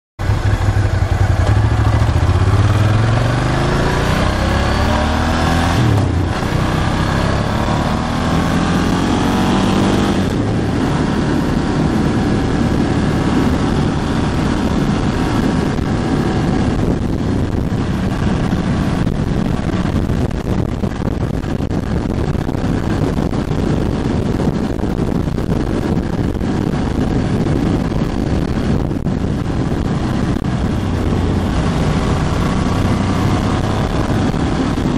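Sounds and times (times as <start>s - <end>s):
motorcycle engine accelerating: 0.2s - 34.9s
wind and road noise: 0.2s - 34.9s.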